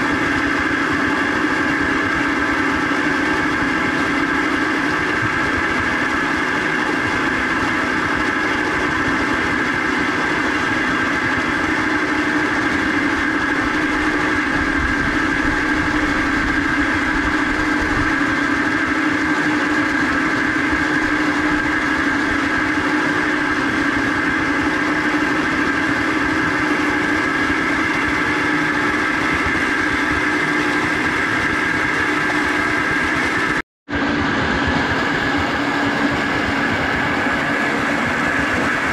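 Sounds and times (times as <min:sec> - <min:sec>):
mechanical whir and hum: 0:00.0 - 0:38.9.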